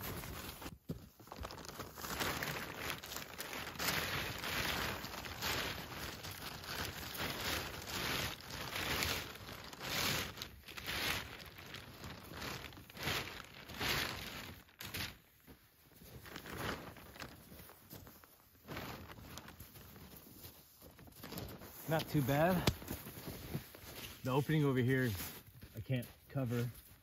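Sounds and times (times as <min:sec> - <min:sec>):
plastic tarp rustling: 0:00.0 - 0:27.0.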